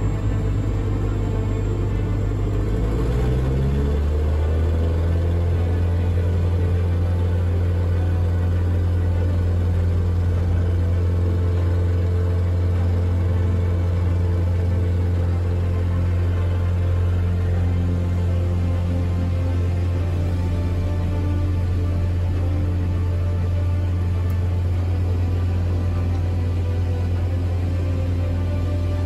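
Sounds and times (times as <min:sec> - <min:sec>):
airplane engine and propeller drone: 0:00.0 - 0:29.0.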